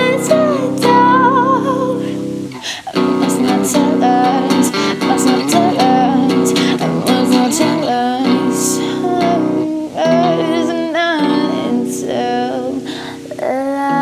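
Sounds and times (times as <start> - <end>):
acoustic guitar strumming: 0.0 - 14.0
person singing: 0.0 - 14.0.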